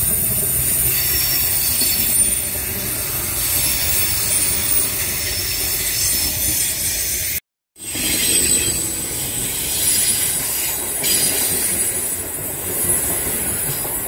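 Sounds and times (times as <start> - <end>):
train wheels rumbling over rails: 0.0 - 14.0.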